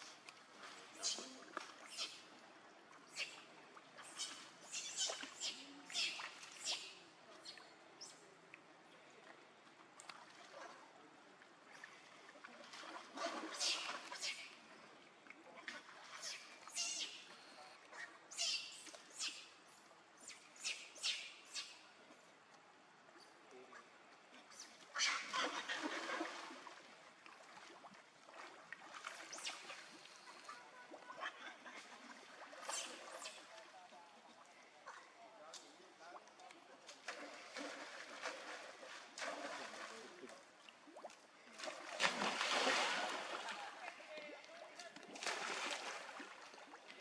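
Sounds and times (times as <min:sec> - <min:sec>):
small water splashes: 0:00.0 - 0:22.7, 0:23.4 - 0:47.0.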